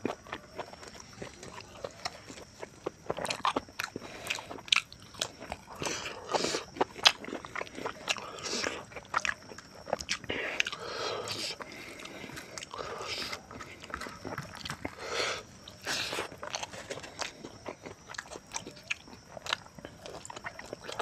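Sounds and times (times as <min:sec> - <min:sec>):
person chewing with smacking: 0:00.0 - 0:21.0.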